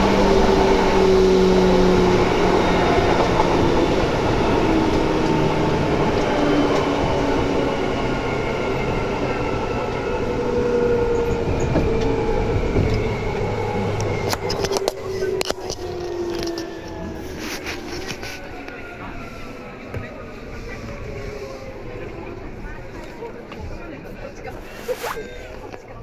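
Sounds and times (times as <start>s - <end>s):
wheels rumbling on rail: 0.0s - 26.0s.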